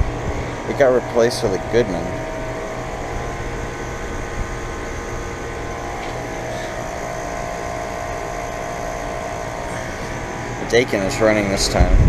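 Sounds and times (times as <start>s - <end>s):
air conditioner compressor hum: 0.0s - 12.0s
condenser fan rushing: 0.0s - 12.0s.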